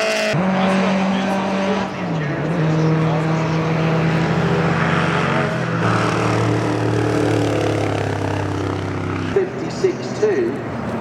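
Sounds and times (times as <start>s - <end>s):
racing car engine passing: 0.0s - 11.0s.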